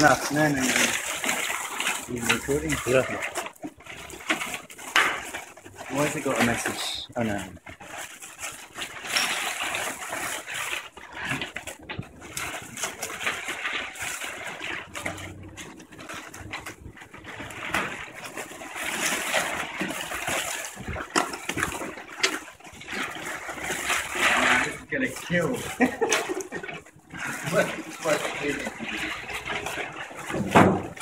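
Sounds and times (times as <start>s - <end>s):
ice and water splashing into bucket: 0.0s - 31.0s.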